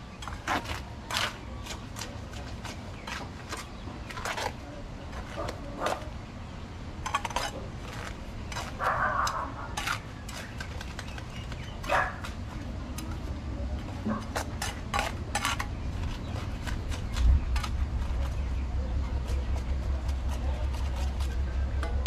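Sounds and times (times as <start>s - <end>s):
trowel scraping mortar: 0.2s - 6.1s, 7.0s - 22.0s.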